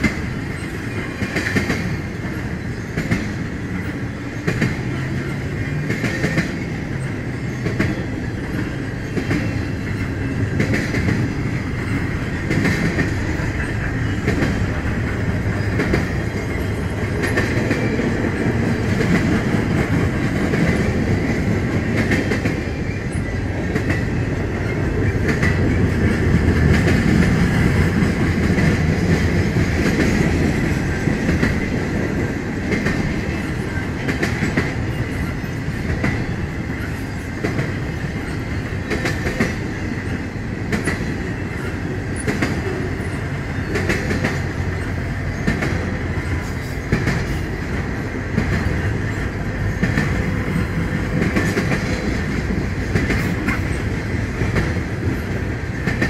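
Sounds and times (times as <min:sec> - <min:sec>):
clickety-clack over rail joints: 0:00.0 - 0:56.0
freight train wheels rumbling: 0:00.0 - 0:56.0.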